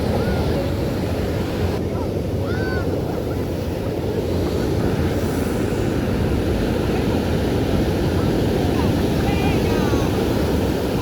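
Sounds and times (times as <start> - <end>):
ocean surf: 0.0 - 11.0
wind buffeting microphone: 0.0 - 11.0.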